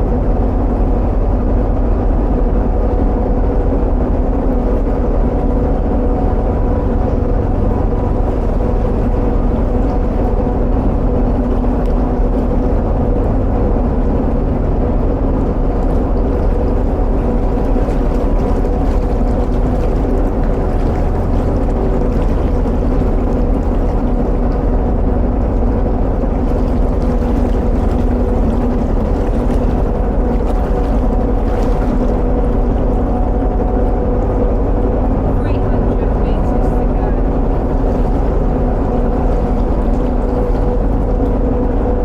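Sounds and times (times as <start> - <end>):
boat engine rumbling: 0.0 - 42.0
constant hum: 0.0 - 42.0.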